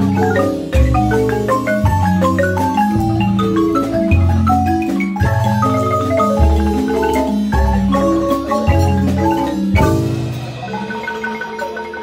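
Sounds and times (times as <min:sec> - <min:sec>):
deep bass marimba notes: 0:00.0 - 0:12.0
marimba ensemble playing: 0:00.0 - 0:12.0.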